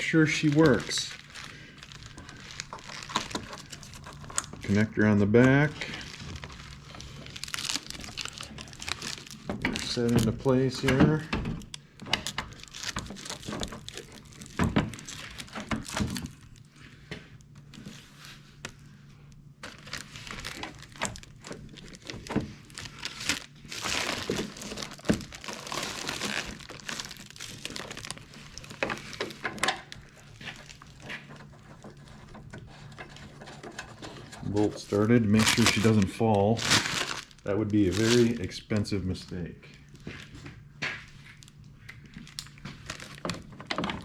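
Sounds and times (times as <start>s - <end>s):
faint steady hum: 0.0s - 44.0s
plastic rustling: 0.0s - 44.0s.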